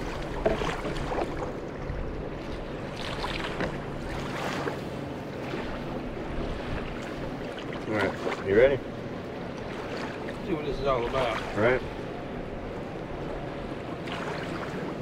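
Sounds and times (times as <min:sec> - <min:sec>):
low steady hum: 0:00.0 - 0:15.0
water lapping around boat: 0:00.0 - 0:15.0
wind: 0:00.0 - 0:15.0.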